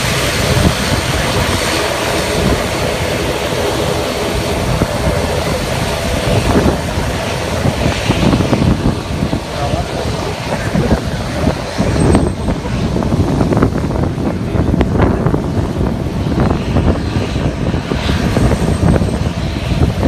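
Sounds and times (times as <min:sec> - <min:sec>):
turboprop engines running: 0:00.0 - 0:20.0
wind buffeting microphone: 0:00.0 - 0:20.0.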